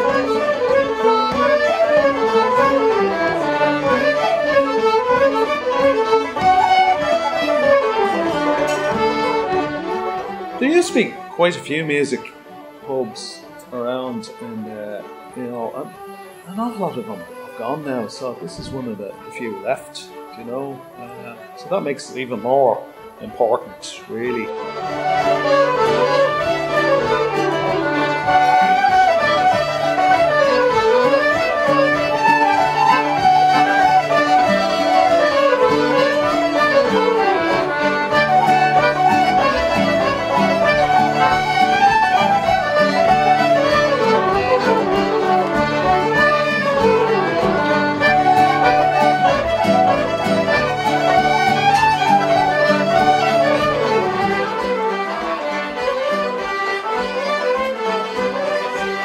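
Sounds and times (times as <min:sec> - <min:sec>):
fiddles flute and accordion tune: 0:00.0 - 0:59.0
low accompanying notes: 0:00.0 - 0:59.0.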